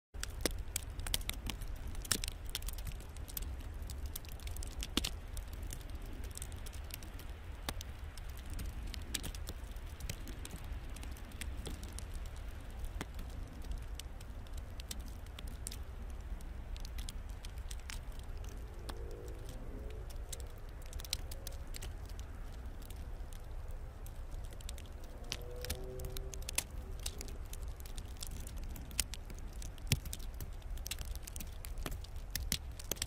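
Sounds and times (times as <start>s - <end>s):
sleet ticking and pattering: 0.2s - 33.0s
steady low rumble: 0.2s - 33.0s.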